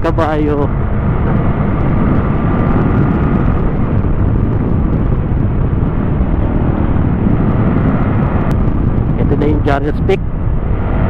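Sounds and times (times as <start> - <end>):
motorcycle road noise: 0.0 - 11.0
wind buffeting microphone: 0.0 - 11.0.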